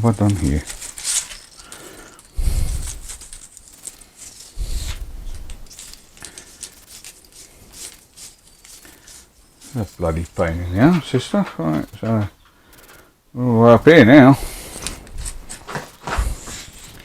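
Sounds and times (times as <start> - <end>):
tape rustling and scraping: 0.0 - 13.1, 14.4 - 17.0.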